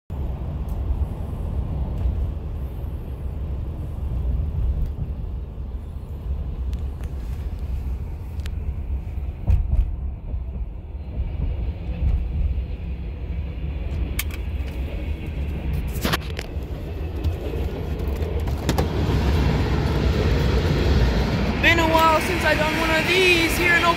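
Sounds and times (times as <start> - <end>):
car cabin road rumble: 0.1 - 23.9.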